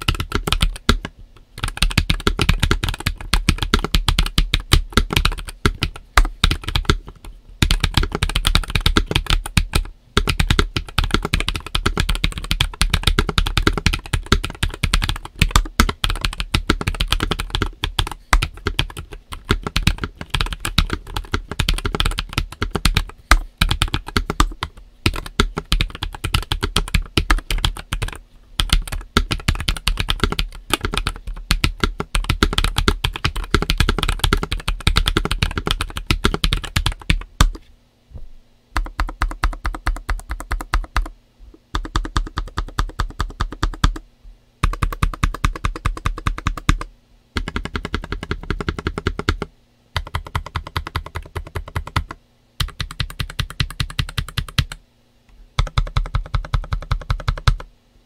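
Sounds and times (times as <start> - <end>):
mechanical keyboard typing: 0.0 - 37.6, 38.8 - 41.1, 41.7 - 44.0, 44.6 - 54.8, 55.6 - 57.7.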